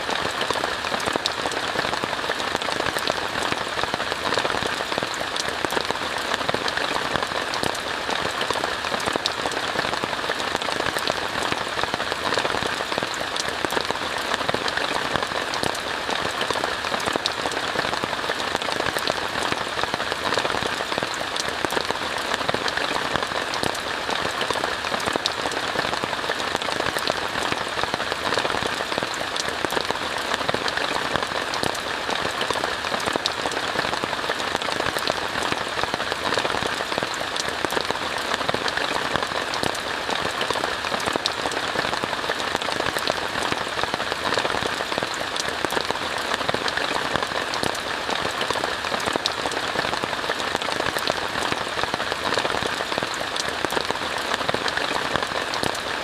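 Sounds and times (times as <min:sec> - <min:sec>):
rain on a tent: 0:00.0 - 0:56.0.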